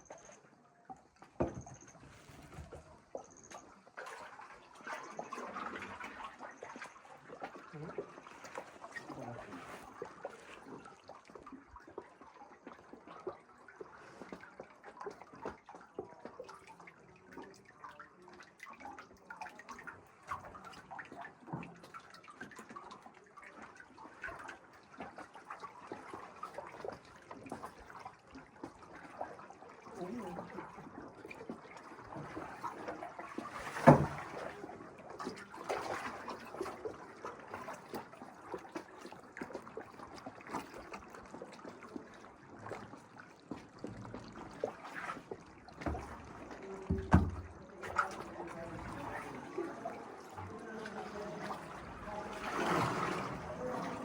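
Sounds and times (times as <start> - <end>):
water splashing and dripping: 0.0 - 54.0.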